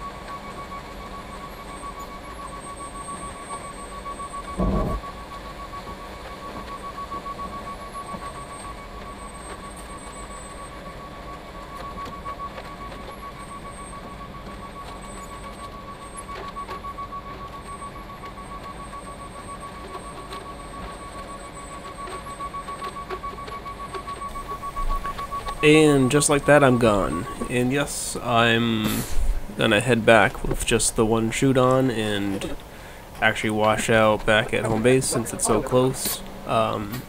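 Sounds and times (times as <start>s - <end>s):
diesel engine running low: 0.0s - 37.0s
steady high-pitched tone: 0.0s - 37.0s.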